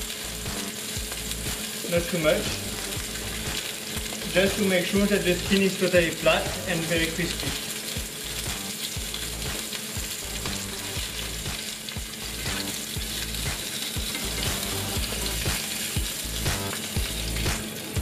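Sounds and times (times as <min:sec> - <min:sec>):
fish sizzling in a frying pan: 0:00.0 - 0:18.0.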